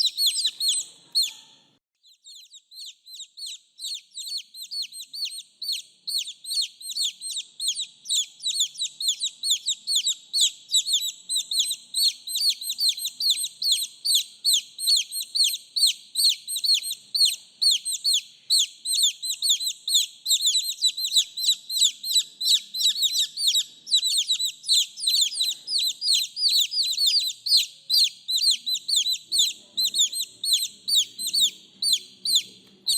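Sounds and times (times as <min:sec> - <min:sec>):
baby chicks peeping: 0:00.0 - 0:32.9.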